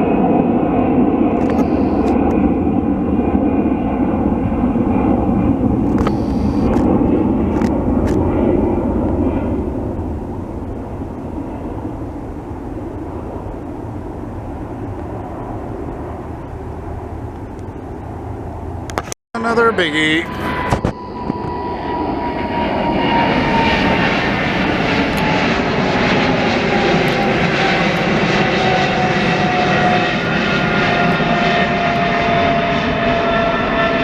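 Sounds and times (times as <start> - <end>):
airliner engine rumble: 0.0 - 34.0.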